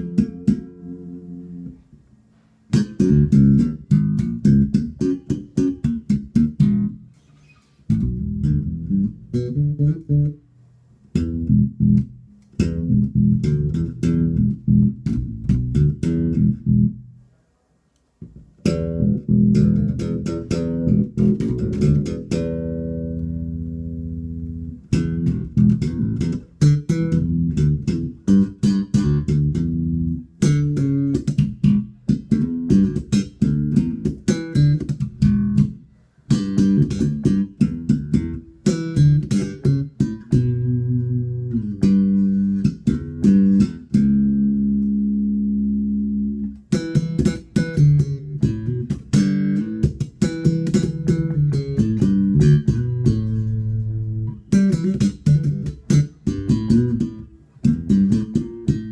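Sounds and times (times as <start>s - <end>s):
electric bass playing: 0.0s - 2.1s, 2.7s - 7.3s, 7.9s - 17.2s, 18.2s - 58.9s.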